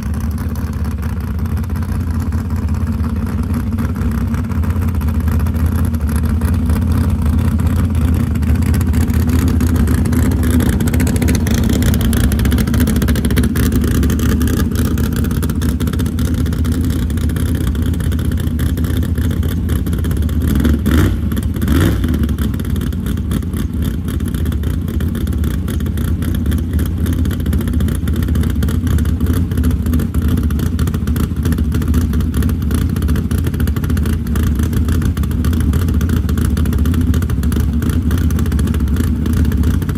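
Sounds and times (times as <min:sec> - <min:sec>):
truck engine idling: 0:00.0 - 0:20.6, 0:22.4 - 0:39.9.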